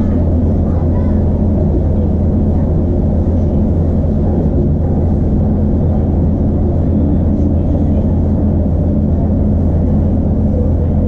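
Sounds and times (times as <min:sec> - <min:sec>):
diesel engine drone: 0:00.0 - 0:11.0
wheel and rail rumble: 0:00.0 - 0:11.0.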